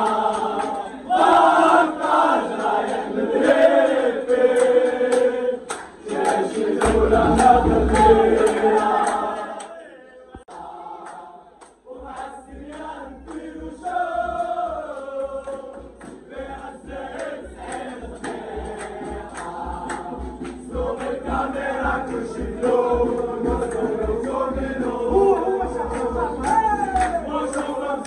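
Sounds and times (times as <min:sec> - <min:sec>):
crowd singing a chant: 0:00.0 - 0:28.0.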